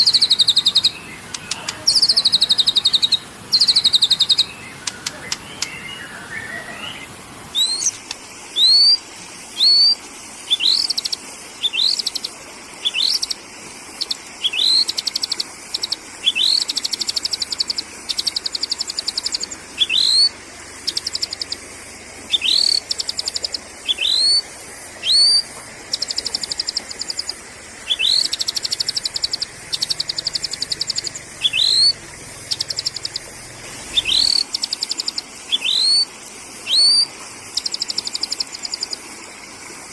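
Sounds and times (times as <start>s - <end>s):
bird rattling trills: 0.0s - 9.0s, 9.6s - 39.0s
bird upward-sweeping calls: 0.0s - 9.0s, 9.6s - 39.0s.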